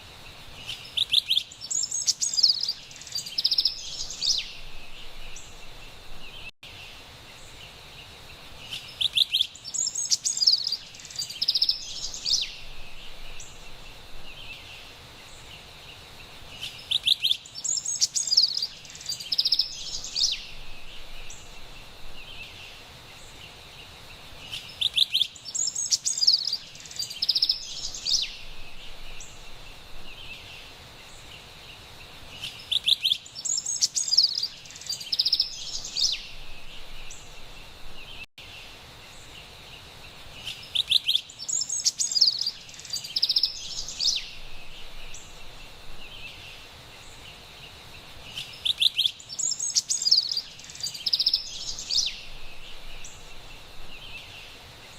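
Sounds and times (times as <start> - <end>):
forest background hiss: 0.0 - 54.9
wren singing: 0.6 - 6.5, 8.6 - 15.6, 16.5 - 23.5, 24.4 - 31.4, 32.2 - 38.3, 40.4 - 54.9.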